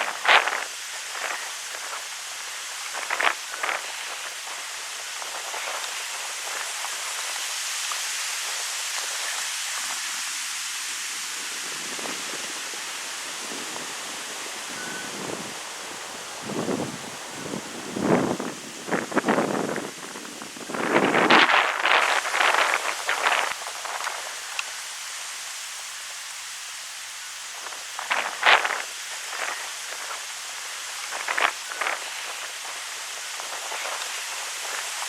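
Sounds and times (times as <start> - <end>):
wind rustling tree leaves: 0.0 - 35.0.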